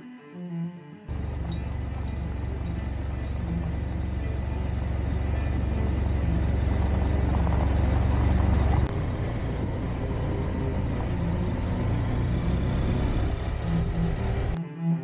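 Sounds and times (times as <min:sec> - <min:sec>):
motorcycle engine rumble: 0:01.1 - 0:14.6
road noise: 0:01.1 - 0:14.6
wind: 0:01.1 - 0:14.6.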